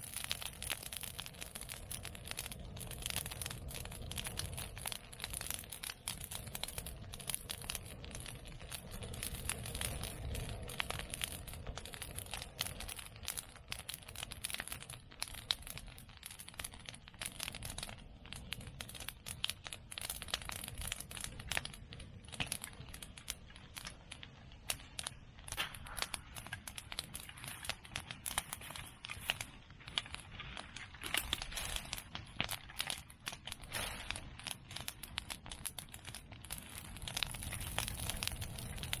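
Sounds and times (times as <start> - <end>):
fire crackling: 0.0 - 39.0
low rumble of flames: 0.0 - 39.0
sharp snaps of burning wood: 0.0 - 39.0.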